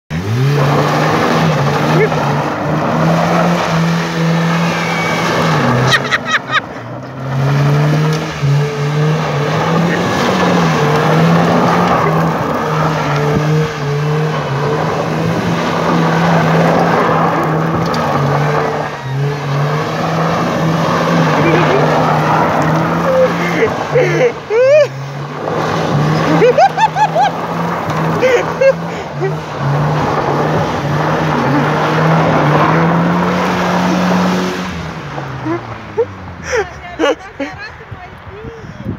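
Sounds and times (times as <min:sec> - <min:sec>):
car engine at high revs: 0:00.1 - 0:37.2.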